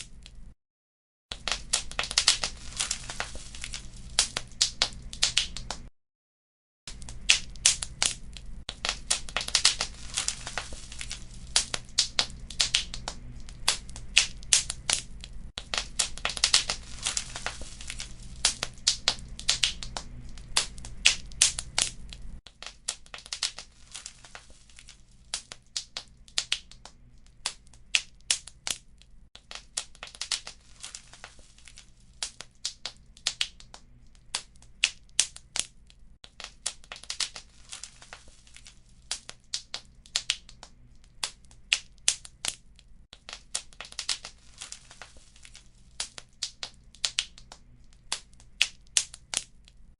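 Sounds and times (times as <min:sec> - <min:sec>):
wood fire crackling: 0:01.3 - 0:05.9, 0:06.9 - 0:49.9.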